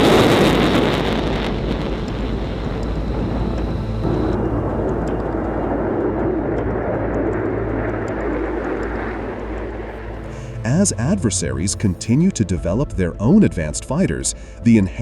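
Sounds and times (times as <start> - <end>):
jet engine rushing: 0.0 - 12.7.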